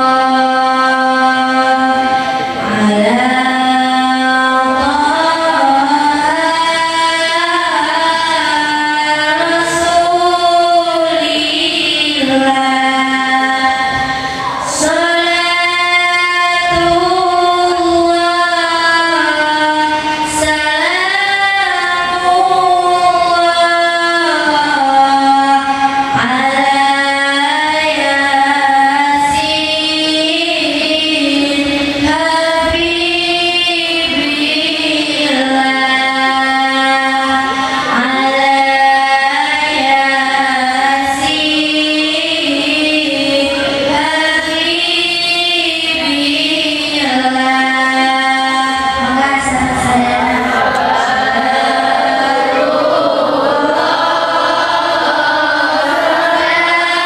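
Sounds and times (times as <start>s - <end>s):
girl singing into a microphone: 0.0s - 57.0s.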